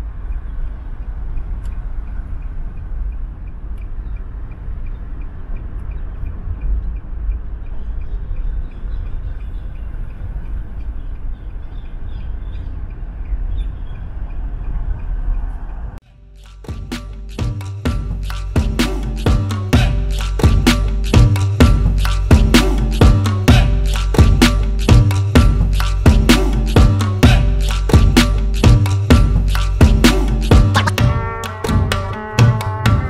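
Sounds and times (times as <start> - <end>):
vehicle road and wind rumble: 0.0 - 33.0.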